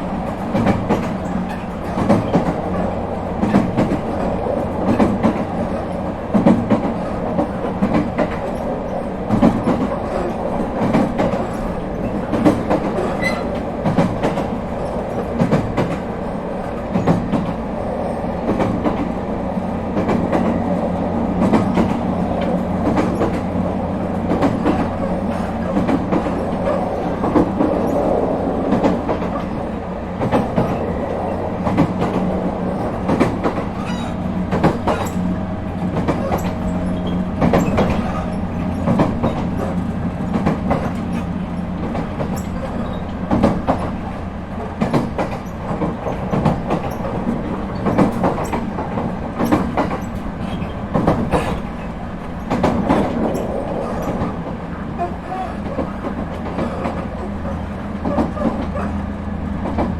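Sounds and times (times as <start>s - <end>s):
train low hum: 0.0s - 59.9s
wheels clicking over rail joints: 0.0s - 59.9s.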